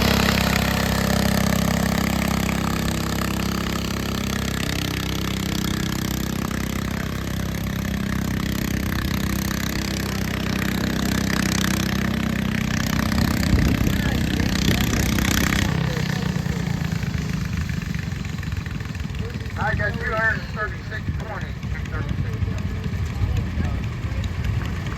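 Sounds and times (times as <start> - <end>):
tractor engine running under load: 0.0 - 24.9.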